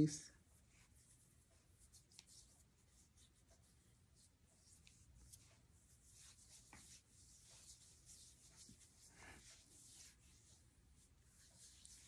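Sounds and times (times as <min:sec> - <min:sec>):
fingertips rubbing skin: 0:00.6 - 0:12.0.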